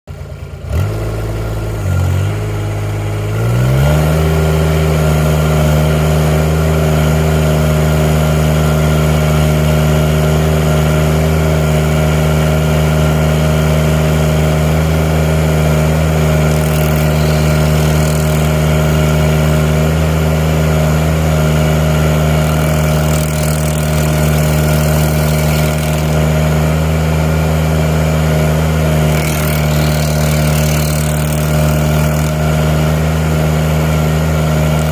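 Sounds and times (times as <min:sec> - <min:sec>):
loader engine revving: 0:00.1 - 0:34.9.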